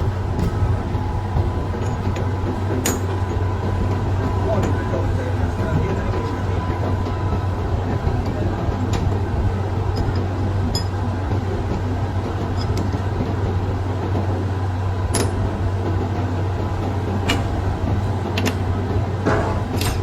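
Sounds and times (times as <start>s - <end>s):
machine motor humming: 0.0s - 20.0s.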